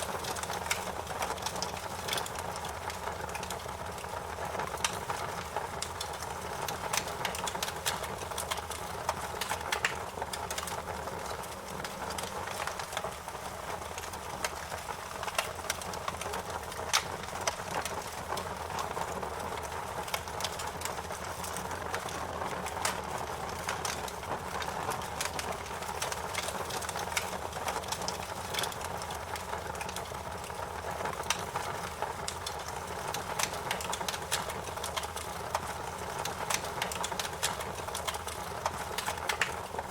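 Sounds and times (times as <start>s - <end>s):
fire popping and snapping: 0.0s - 39.9s.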